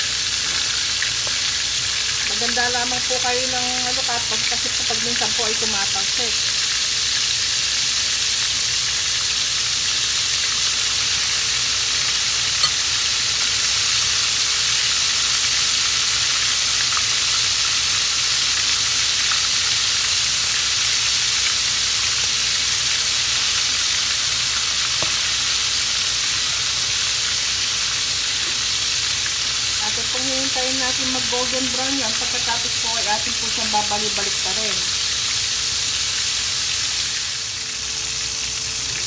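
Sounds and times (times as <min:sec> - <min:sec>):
food deep-frying in oil: 0:00.0 - 0:39.0.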